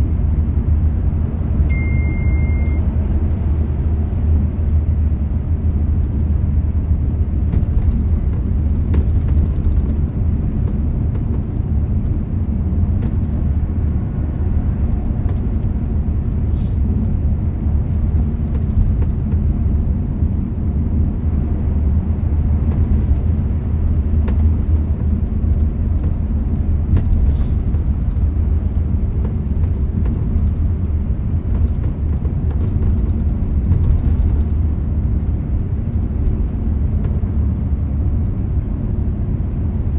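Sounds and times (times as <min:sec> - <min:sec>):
vehicle driving rumble: 0:00.0 - 0:39.9.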